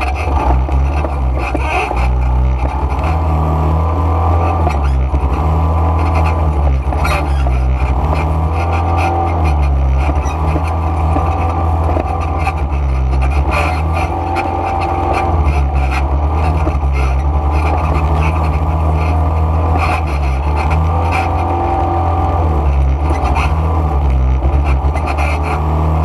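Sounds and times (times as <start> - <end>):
quad bike engine revving: 0.0 - 26.0.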